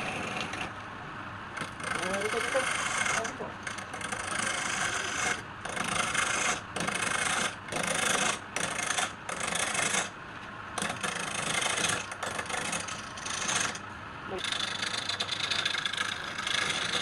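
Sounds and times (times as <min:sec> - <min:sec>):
tool rasping against wood: 0:00.0 - 0:00.7, 0:01.6 - 0:10.2, 0:10.8 - 0:17.0.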